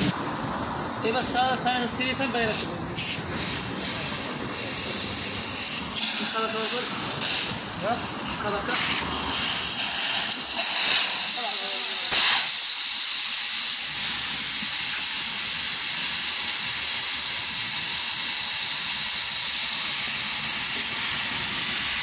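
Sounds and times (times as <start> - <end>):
compressed air hissing: 0.0 - 22.0.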